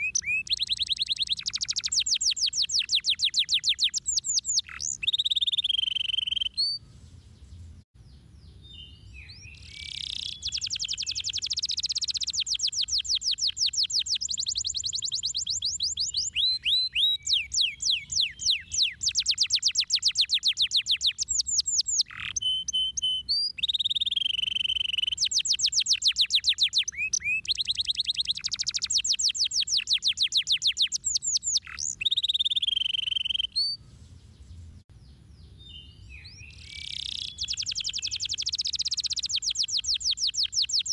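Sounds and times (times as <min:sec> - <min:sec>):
canary singing trills: 0:00.0 - 0:07.5, 0:08.1 - 0:40.9.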